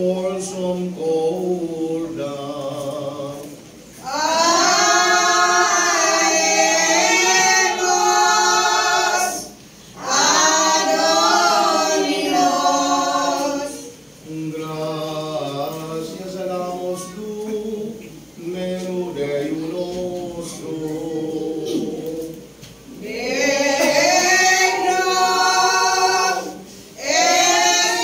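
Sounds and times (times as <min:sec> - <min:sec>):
choir singing: 0:00.0 - 0:18.0, 0:18.6 - 0:28.0.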